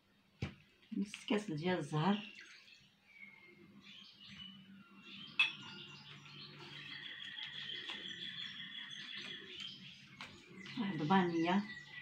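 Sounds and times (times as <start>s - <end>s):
small bird chirping and trilling: 2.0s - 12.0s.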